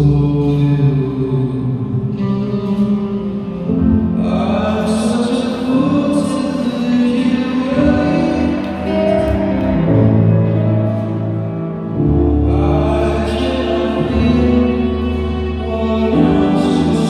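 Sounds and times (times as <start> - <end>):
slow music over sound system: 0.0 - 17.0.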